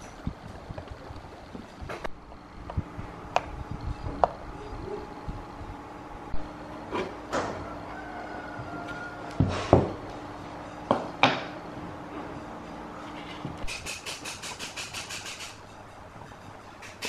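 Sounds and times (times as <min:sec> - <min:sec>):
faint steady hum: 0:00.0 - 0:13.7.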